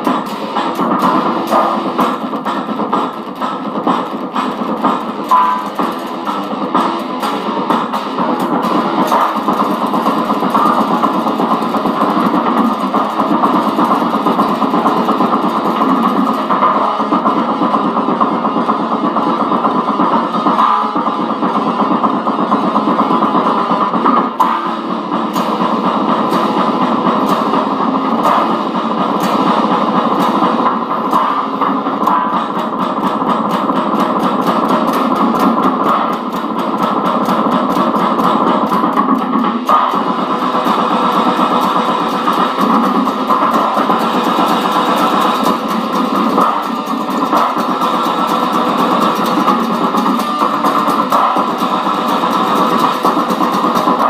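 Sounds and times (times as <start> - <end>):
electric guitar picked and strummed: 0.0 - 54.0.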